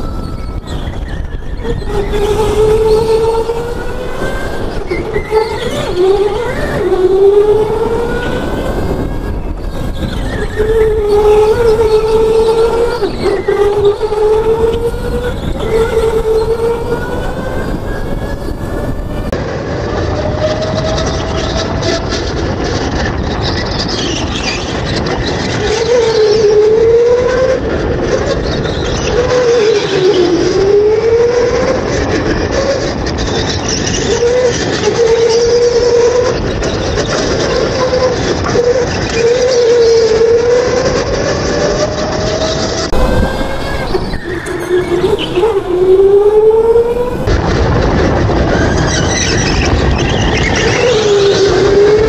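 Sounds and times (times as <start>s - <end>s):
electric go-kart motor whining: 0.0s - 52.0s
rushing noise: 0.0s - 52.0s.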